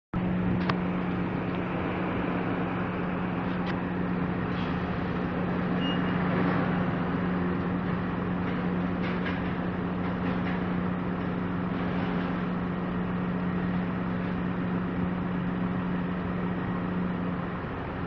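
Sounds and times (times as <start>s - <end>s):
heavy machinery humming: 0.2s - 18.0s.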